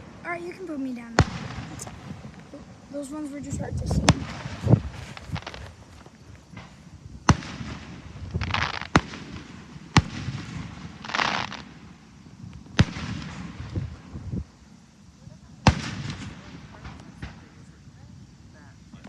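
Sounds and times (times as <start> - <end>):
fireworks bangs: 0.0 - 14.4, 15.4 - 19.0
fireworks hissing: 0.0 - 19.0.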